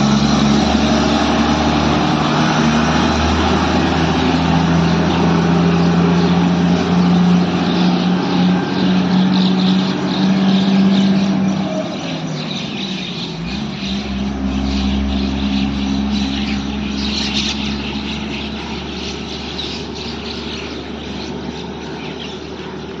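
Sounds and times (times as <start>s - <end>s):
birds chirping: 0.0s - 23.0s
low engine drone: 0.0s - 23.0s.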